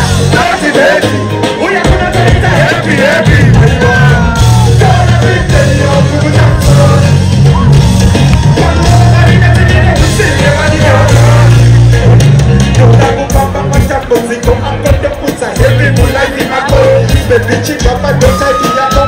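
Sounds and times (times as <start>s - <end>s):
person singing: 0.0s - 7.7s, 8.4s - 19.0s
loud live concert music: 0.0s - 19.0s.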